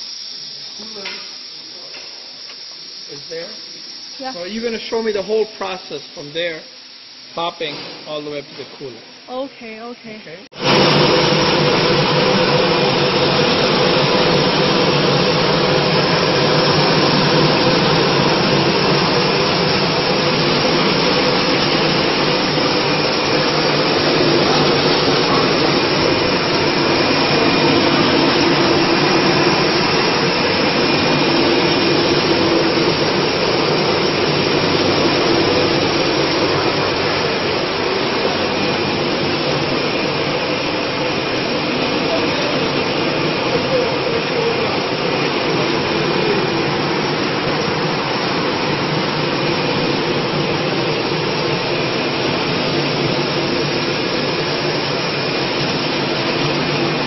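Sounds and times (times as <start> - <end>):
machinery rushing noise: 10.5 - 57.0.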